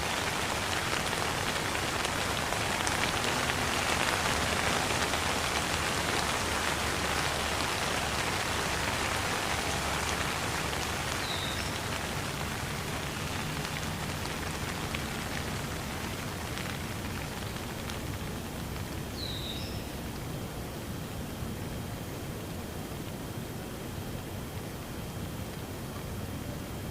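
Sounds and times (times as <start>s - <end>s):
steady rain falling on surfaces: 0.0s - 26.9s.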